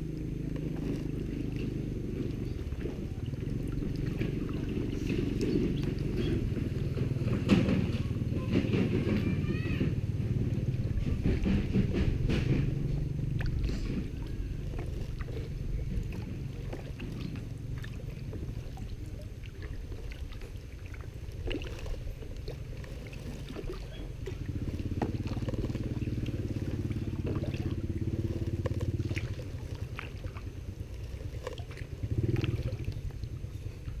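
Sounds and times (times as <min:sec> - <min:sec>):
motor humming: 0:00.0 - 0:34.0.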